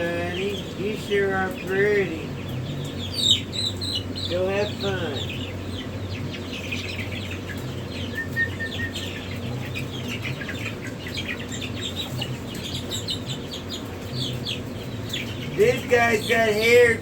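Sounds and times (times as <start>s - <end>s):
chicks peeping: 0.0s - 17.0s
steady low hum: 0.0s - 17.0s.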